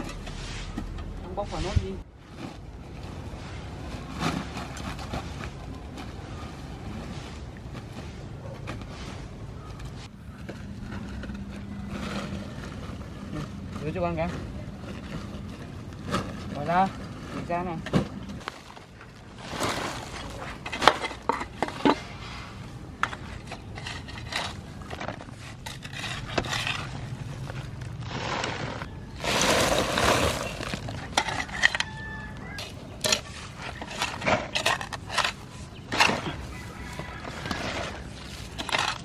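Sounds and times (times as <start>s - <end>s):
objects clattering and knocking: 0.0s - 39.0s
scraping rustle: 0.0s - 39.0s.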